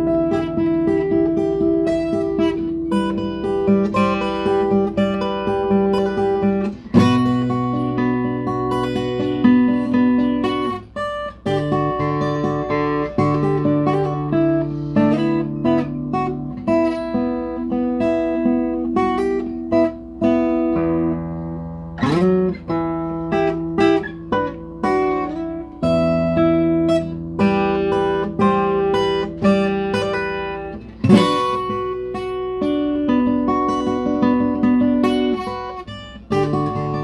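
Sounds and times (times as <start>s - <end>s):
guitar picked notes: 0.0s - 37.0s.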